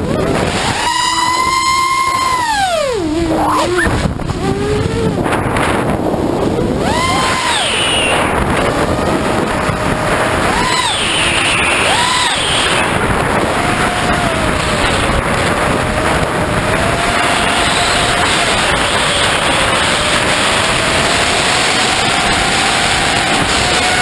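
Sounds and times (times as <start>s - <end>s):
drone motors whining: 0.0s - 24.0s
wind rushing on microphone: 0.0s - 24.0s.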